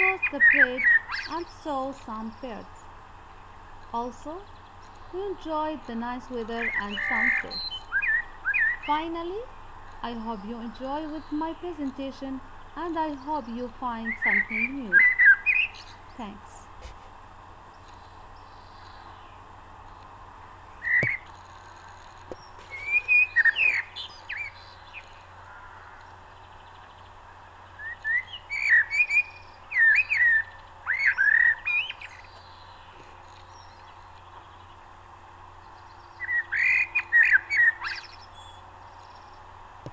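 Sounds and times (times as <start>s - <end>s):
background hiss: 0.0s - 39.9s
birds chirping: 0.0s - 39.9s.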